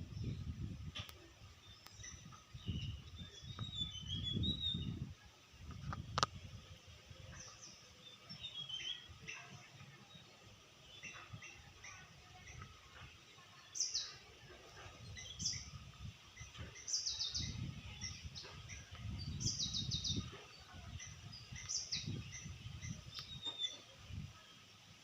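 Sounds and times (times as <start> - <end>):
birds chirping: 0.0 - 24.7.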